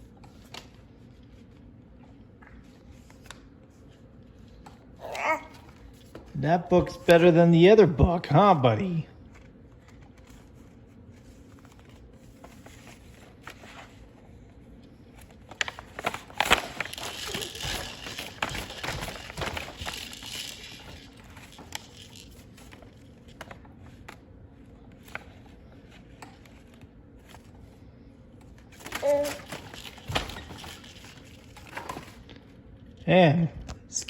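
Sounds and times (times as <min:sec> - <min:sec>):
book rustling and handling: 0:00.1 - 0:04.8, 0:09.2 - 0:32.6.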